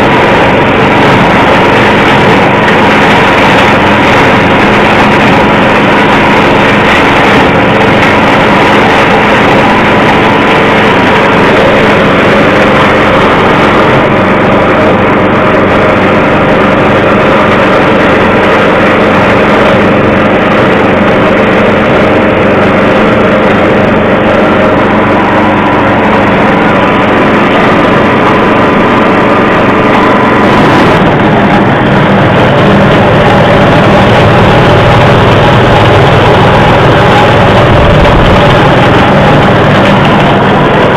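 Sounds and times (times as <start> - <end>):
forage chopper machine running: 0.0 - 40.9.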